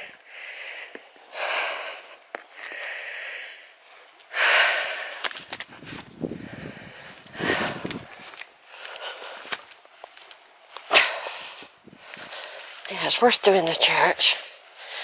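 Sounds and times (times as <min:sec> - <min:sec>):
person breathing heavily: 0:00.0 - 0:12.9, 0:14.2 - 0:15.0.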